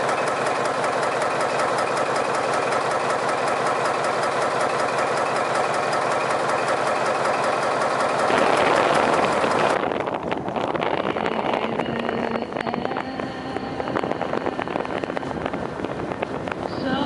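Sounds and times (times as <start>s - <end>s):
diesel engine clatter: 0.0s - 17.0s.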